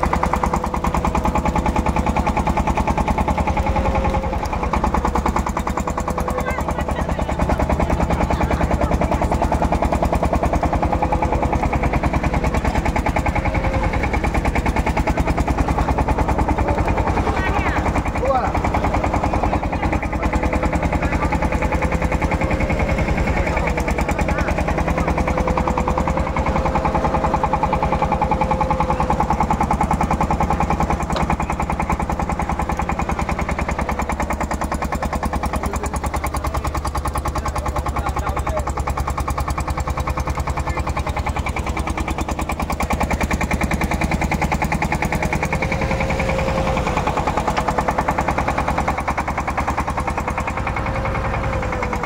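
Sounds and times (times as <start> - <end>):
boat engine idling: 0.0 - 52.0.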